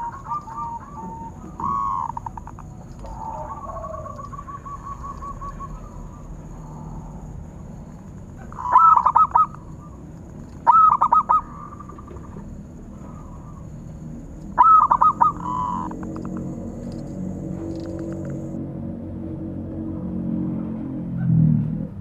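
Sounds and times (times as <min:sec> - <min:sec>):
dove cooing: 0:00.0 - 0:18.6.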